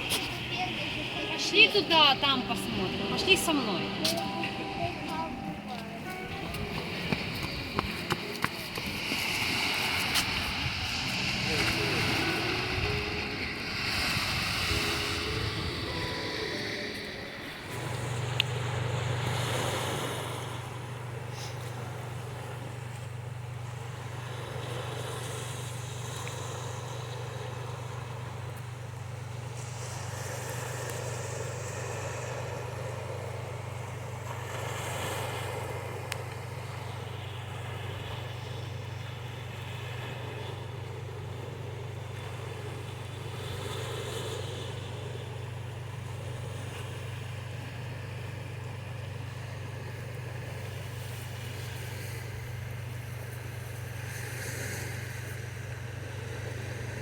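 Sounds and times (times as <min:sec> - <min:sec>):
steady low hum: 0:00.0 - 0:57.0
surf washing ashore: 0:00.0 - 0:57.0.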